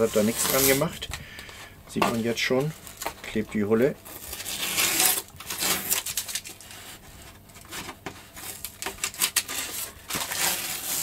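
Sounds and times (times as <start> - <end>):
tape and plastic film peeling: 0.0 - 11.0.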